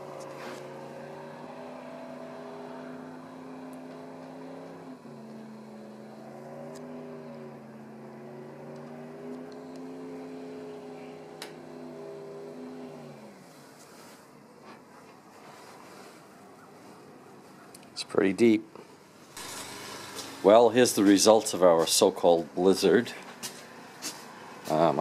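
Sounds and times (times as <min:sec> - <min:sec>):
engine running: 0:00.0 - 0:18.0, 0:18.7 - 0:25.0.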